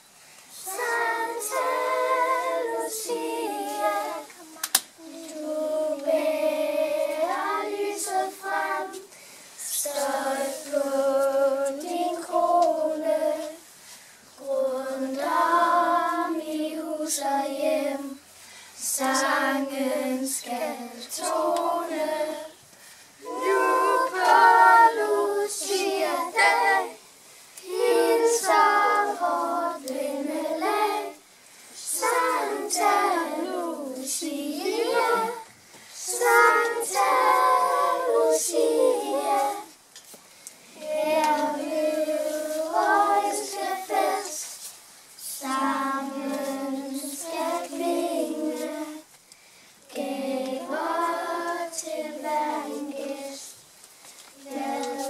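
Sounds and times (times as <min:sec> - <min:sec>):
children's choir singing: 0:00.6 - 0:13.6, 0:14.4 - 0:18.2, 0:18.8 - 0:22.6, 0:23.2 - 0:27.0, 0:27.6 - 0:31.2, 0:31.8 - 0:39.8, 0:40.8 - 0:44.6, 0:45.2 - 0:49.1, 0:49.9 - 0:53.5, 0:54.4 - 0:55.0.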